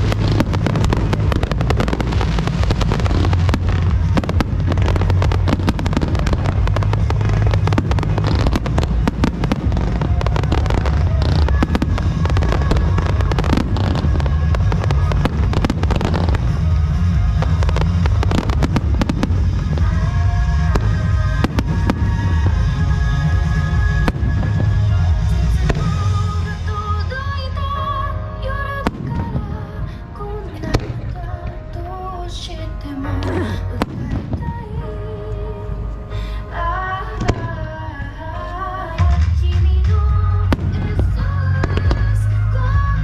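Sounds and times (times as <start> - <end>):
fireworks bursting: 0.0 - 43.0
music with held notes: 0.0 - 43.0.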